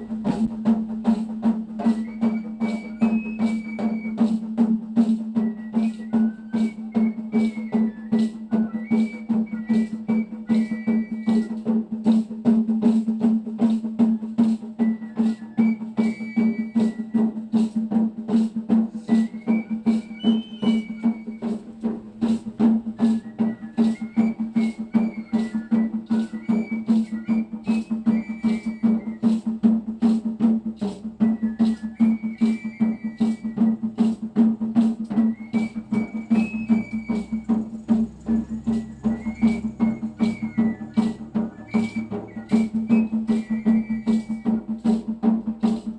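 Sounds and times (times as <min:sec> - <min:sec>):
sharp percussive beat: 0:00.0 - 0:45.9.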